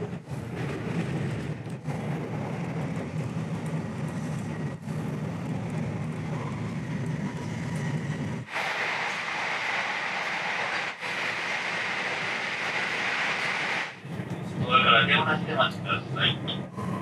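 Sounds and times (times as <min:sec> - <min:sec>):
train rumble from inside carriage: 0:00.0 - 0:17.0.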